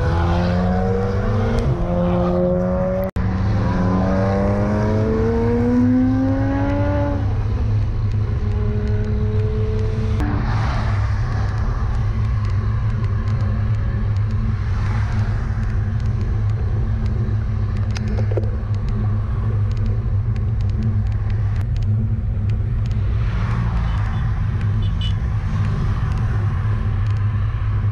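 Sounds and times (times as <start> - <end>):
motor vehicles passing: 0.0 - 27.9
wind and road rumble: 0.0 - 27.9.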